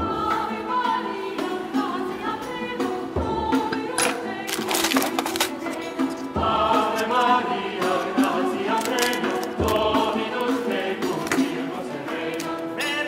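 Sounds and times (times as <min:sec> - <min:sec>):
voices singing in chorus: 0:00.0 - 0:13.0.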